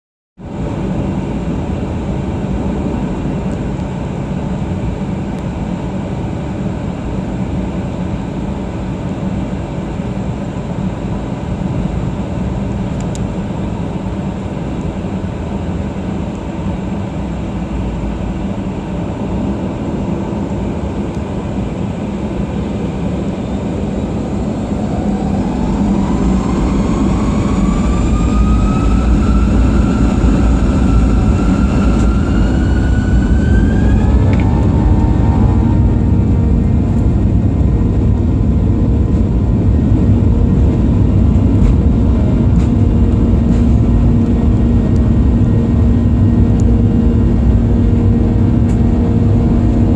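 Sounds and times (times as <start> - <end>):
cabin engine rumble and hum: 0.4 - 49.9
jet engine whine rising: 0.4 - 49.9.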